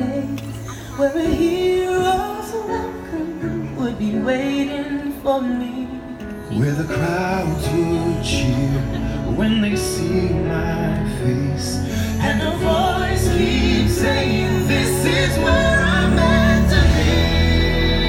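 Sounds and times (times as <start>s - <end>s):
music with singing: 0.0s - 18.0s.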